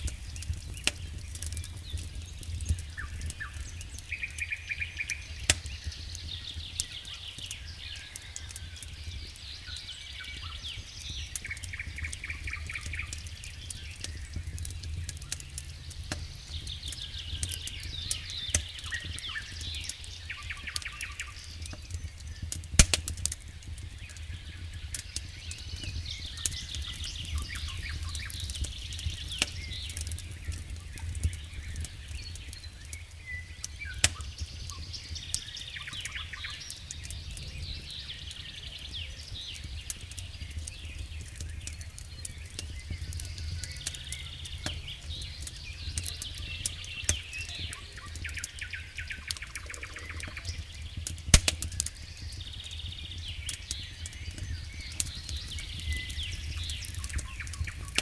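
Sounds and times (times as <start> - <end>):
campfire crackling and popping: 0.0 - 58.0
songbirds singing trills: 0.0 - 58.0.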